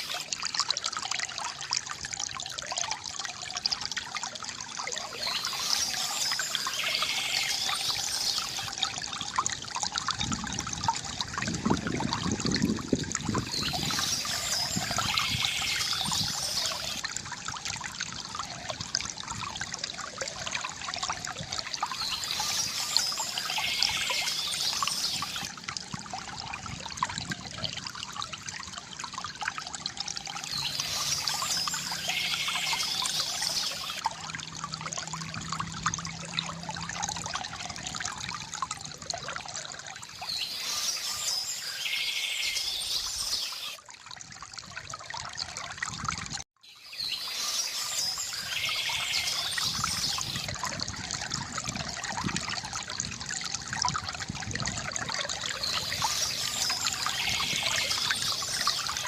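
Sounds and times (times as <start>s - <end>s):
water trickling from fountain: 0.0s - 59.0s.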